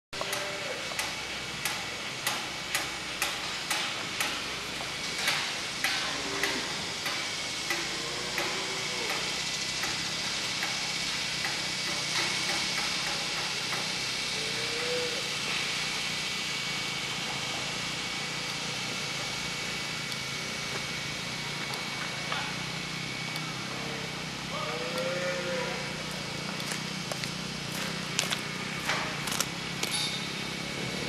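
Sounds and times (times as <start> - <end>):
machinery hum with high whine: 0.2 - 31.0.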